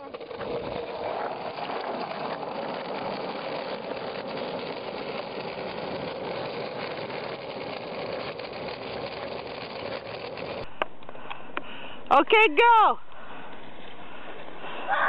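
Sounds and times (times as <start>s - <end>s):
skateboard wheels rolling on asphalt: 0.0s - 11.8s, 13.1s - 15.0s.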